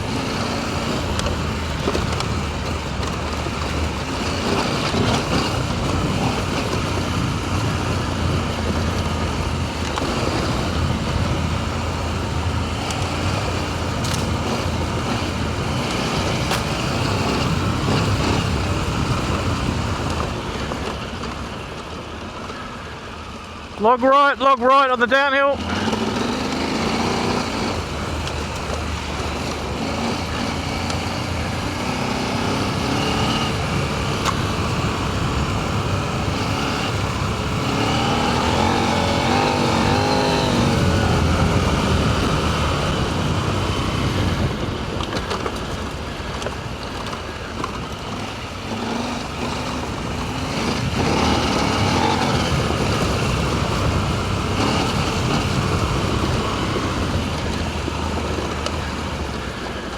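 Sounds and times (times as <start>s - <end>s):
motorcycle engine revving: 0.0s - 23.8s, 24.8s - 59.9s.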